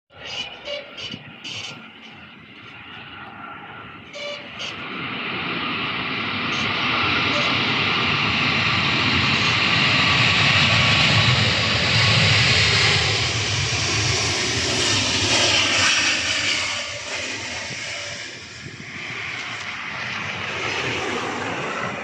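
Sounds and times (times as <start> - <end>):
airliner engines passing: 0.1 - 22.0.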